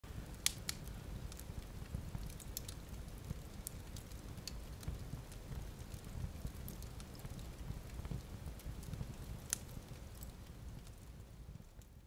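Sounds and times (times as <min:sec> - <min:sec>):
fire crackling: 0:00.0 - 0:12.0.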